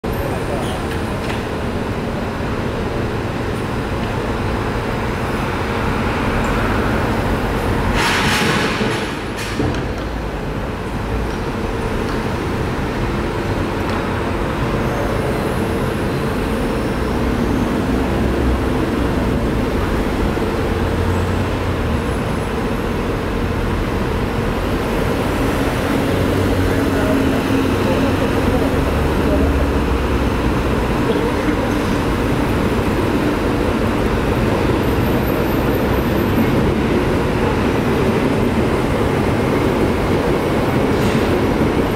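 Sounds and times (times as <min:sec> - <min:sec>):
city traffic rumble: 0:00.0 - 0:41.9.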